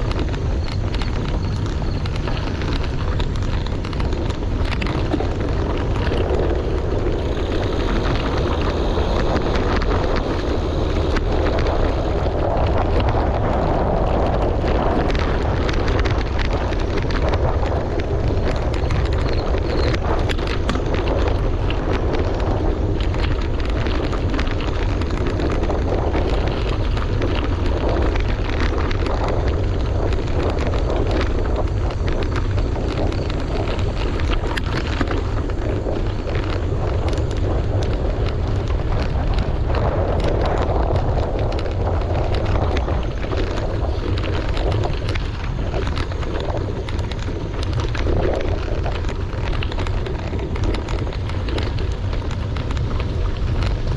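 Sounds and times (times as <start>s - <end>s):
bicycle tyres rolling on gravel: 0.0s - 53.9s
wind buffeting microphone: 0.0s - 53.9s.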